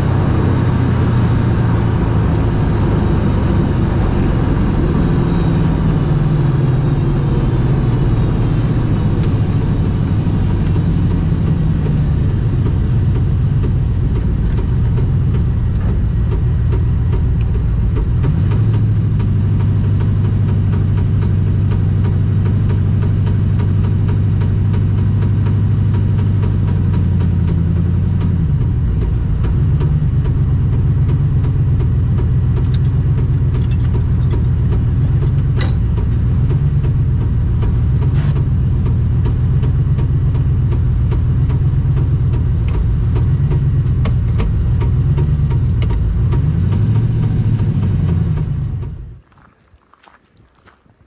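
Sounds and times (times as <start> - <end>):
race car engine idling with knock: 5.9 - 49.2.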